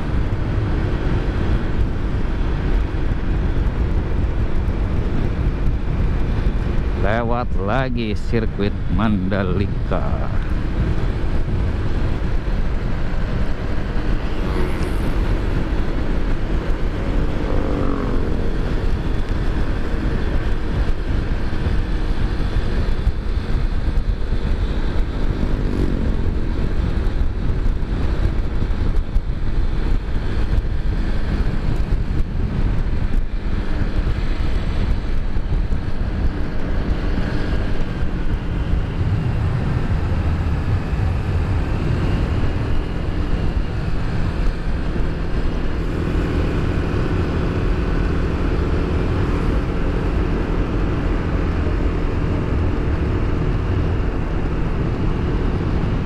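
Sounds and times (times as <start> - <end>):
motorcycle engine hum: 0.0 - 56.0
road noise: 0.0 - 56.0.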